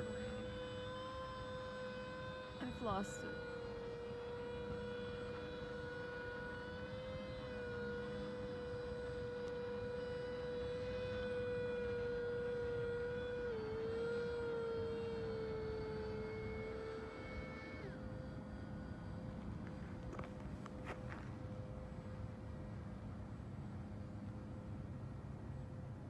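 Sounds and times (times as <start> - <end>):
model aircraft propeller whine: 0.0 - 26.0.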